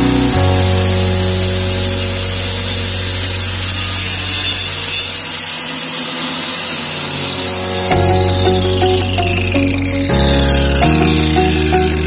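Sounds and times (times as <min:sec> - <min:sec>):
angle grinder cutting wood: 0:00.0 - 0:12.0.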